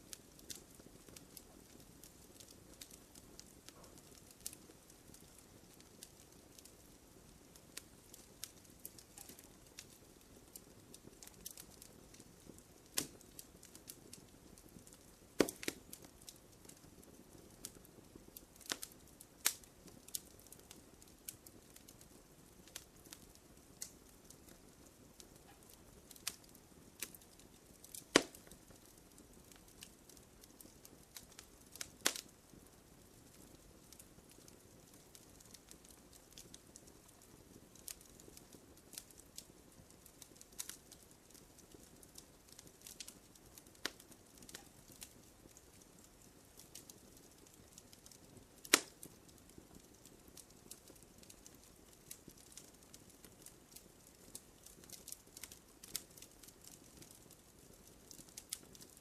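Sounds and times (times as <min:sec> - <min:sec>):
wood campfire crackling: 0:00.0 - 0:59.0.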